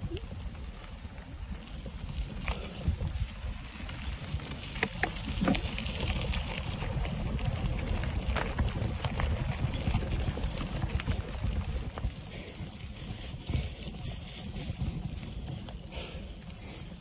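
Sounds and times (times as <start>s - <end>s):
bike clicks and rattles: 0.0s - 17.0s
bike tyres rumbling on dirt: 0.0s - 17.0s
wind on microphone: 0.0s - 17.0s.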